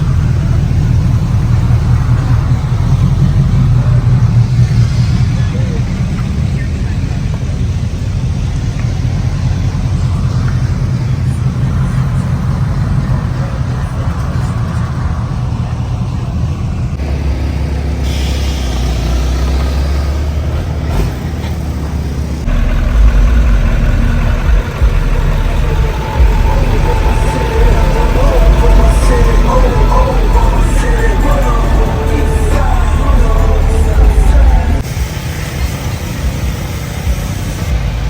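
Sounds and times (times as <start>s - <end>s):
truck engines rumbling: 0.0s - 38.0s.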